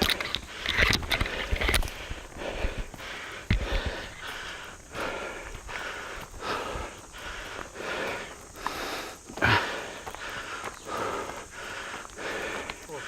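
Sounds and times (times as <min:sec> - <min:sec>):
heavy quick breathing: 0:00.0 - 0:13.0.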